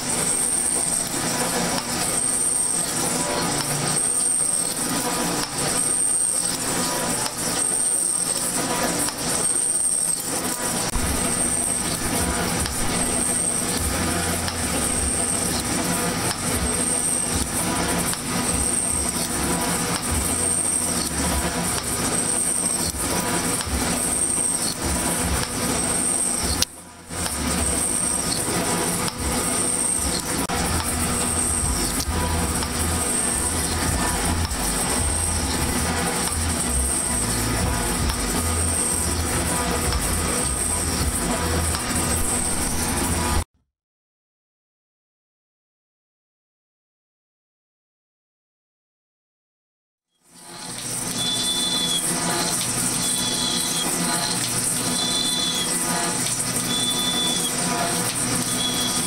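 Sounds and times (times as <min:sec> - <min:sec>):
high squeal: 0:00.0 - 0:43.4, 0:50.2 - 0:59.0
metal shaper clatter: 0:00.0 - 0:43.4, 0:50.4 - 0:59.0.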